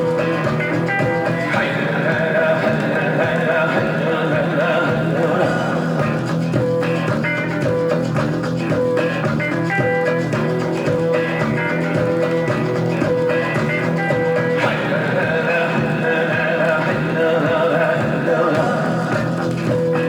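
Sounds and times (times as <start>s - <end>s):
instrumental pop-rock band: 0.0s - 20.0s.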